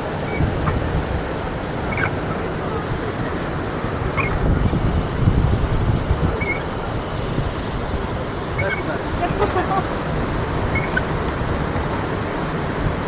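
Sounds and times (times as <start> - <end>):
large waterfall roaring: 0.0 - 13.0
wind buffeting microphone: 0.0 - 13.0.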